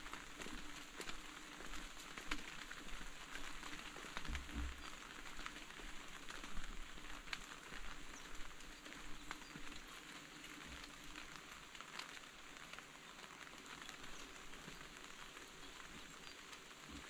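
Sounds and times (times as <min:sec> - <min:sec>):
raindrops ticking: 0:00.0 - 0:17.0
steady rain falling: 0:00.0 - 0:17.0.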